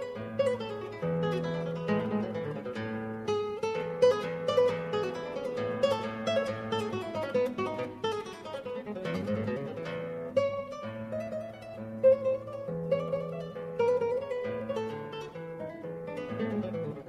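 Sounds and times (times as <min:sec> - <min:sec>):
acoustic guitar plucked notes: 0:00.0 - 0:17.0.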